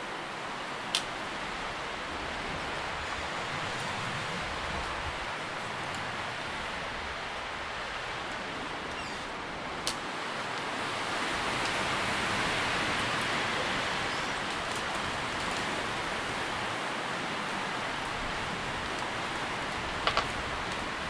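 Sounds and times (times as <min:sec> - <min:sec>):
leaves rustling in wind: 0:00.0 - 0:21.0.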